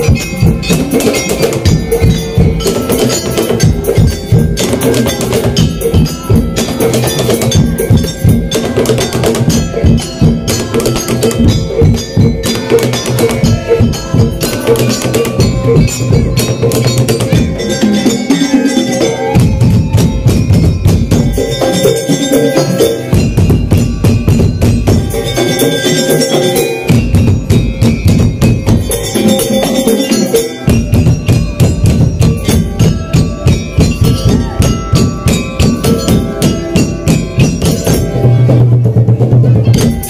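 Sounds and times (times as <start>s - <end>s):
drums and knocked percussion: 0.0s - 40.0s
tuned metal chimes melody: 0.0s - 40.0s.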